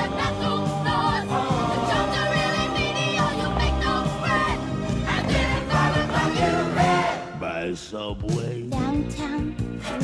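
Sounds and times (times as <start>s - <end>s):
voices singing: 0.0s - 8.7s
band accompaniment: 0.5s - 8.5s.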